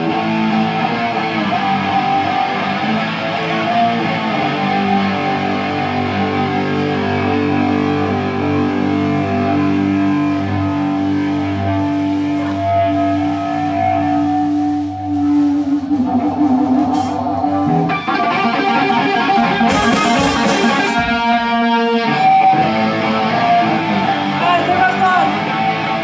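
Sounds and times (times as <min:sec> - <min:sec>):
bass guitar: 0:00.0 - 0:26.0
electric guitar: 0:00.0 - 0:26.0.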